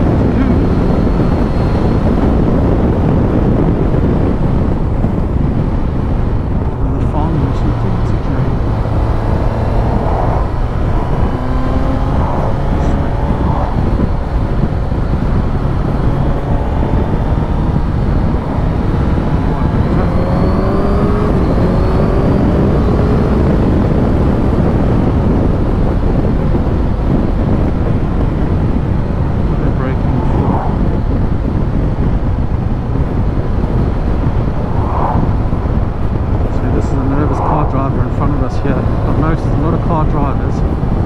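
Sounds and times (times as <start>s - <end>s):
motorcycle engine revving: 0.0s - 41.0s
wind noise rumbling: 0.0s - 41.0s.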